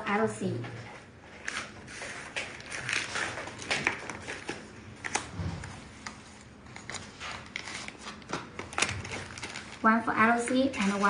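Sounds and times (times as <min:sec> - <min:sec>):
plastic sleeves rustling and crinkling: 0:01.0 - 0:11.0.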